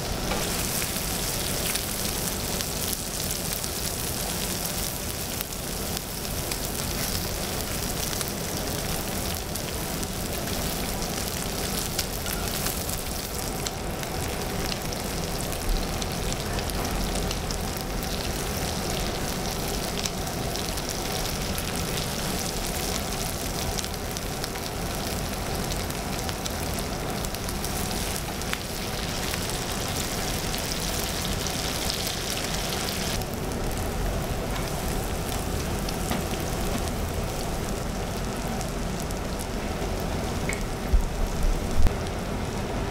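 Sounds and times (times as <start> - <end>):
meat sizzling on griddle: 0.0 - 41.9.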